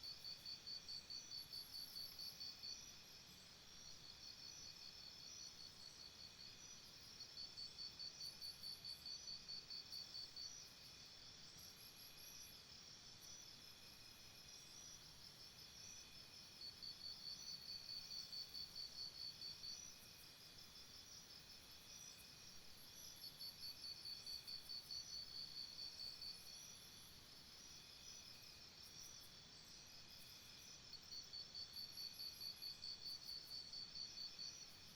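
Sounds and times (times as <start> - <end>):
rhythmic insect chirp: 0.1 - 34.9
insects droning: 0.2 - 34.8.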